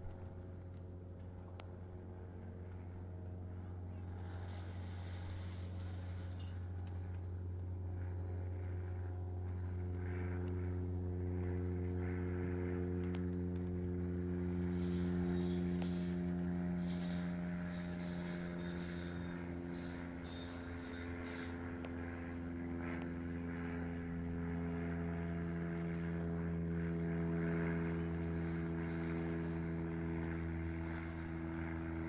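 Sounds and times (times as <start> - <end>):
propeller plane droning overhead: 0.0 - 32.0.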